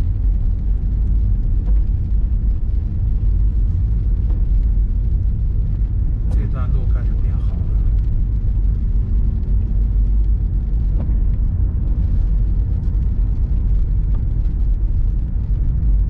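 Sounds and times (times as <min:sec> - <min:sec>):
car driving on wet road: 0:00.0 - 0:16.0.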